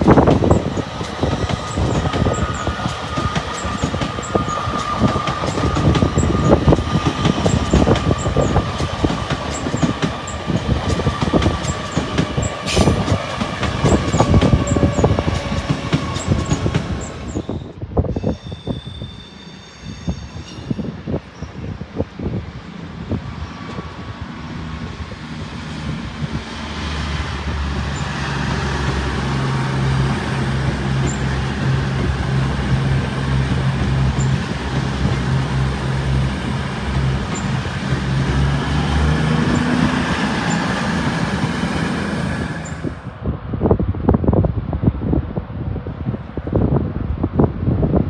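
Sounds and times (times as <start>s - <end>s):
train passing close by: 0.0s - 48.0s.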